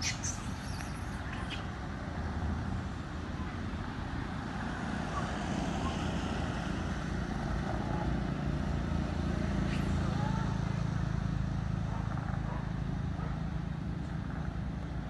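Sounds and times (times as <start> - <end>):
traffic on a wet road: 1.4 - 15.0.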